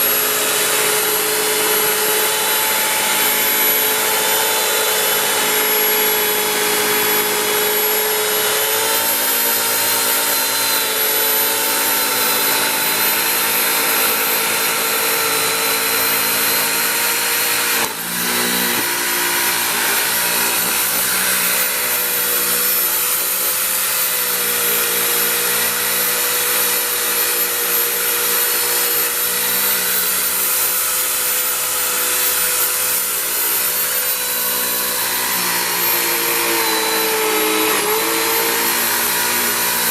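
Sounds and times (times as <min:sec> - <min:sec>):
electric buffer polishing metal wheel: 0:00.0 - 0:39.9.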